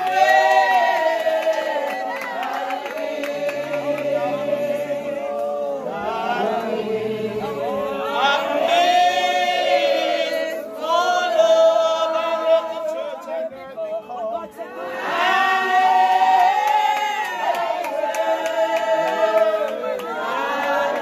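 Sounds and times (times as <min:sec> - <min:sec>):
crowd singing without instruments: 0:00.0 - 0:21.0.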